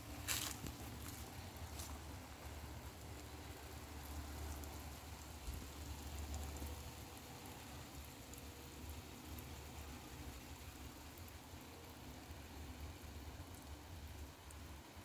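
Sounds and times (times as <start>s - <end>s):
sprinkler water pattering: 0.0s - 15.0s.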